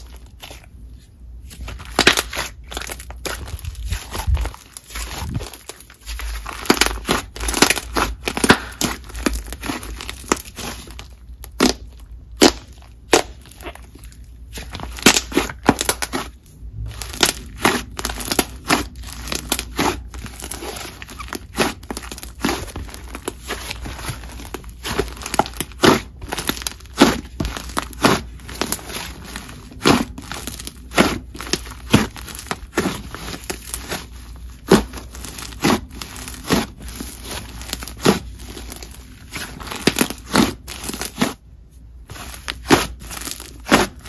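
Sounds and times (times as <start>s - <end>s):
hands kneading sticky slime: 0.0s - 44.0s.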